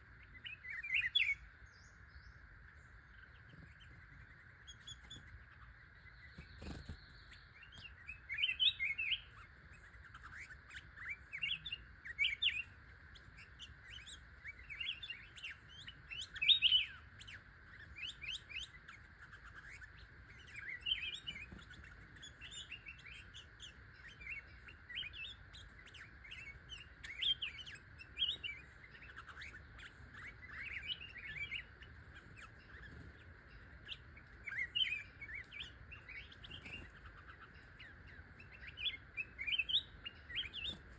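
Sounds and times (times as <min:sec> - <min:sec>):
bird chirping: 0:00.0 - 0:40.9
steady high hum: 0:00.0 - 0:40.9.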